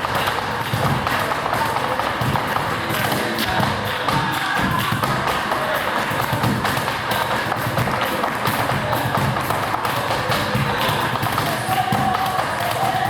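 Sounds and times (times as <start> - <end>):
cajon slapped by hand: 0.0 - 13.0.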